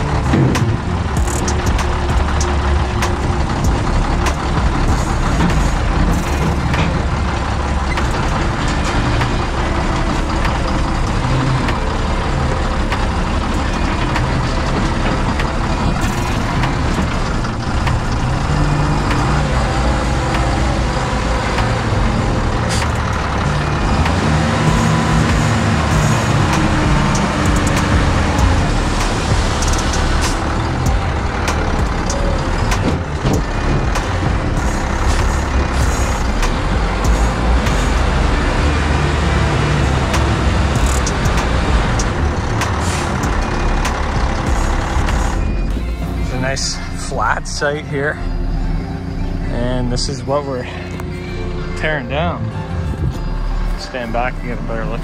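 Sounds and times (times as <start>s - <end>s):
dump truck diesel engine running: 0.0s - 55.0s.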